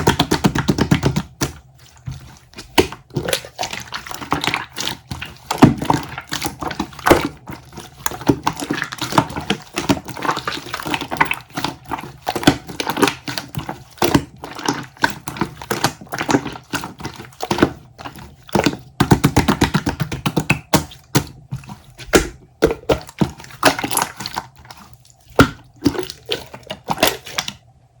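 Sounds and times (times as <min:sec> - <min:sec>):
water sloshing and splashing: 0:00.0 - 0:28.0.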